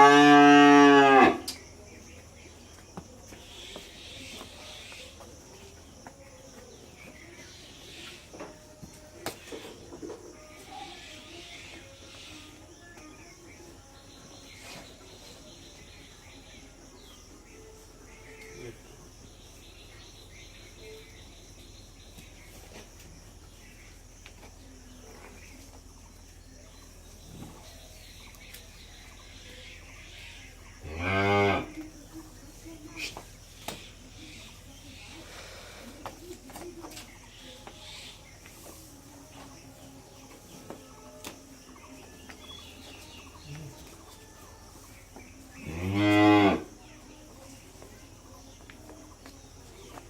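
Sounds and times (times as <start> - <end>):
insects: 0.0 - 50.0
birds chirping: 0.1 - 50.0.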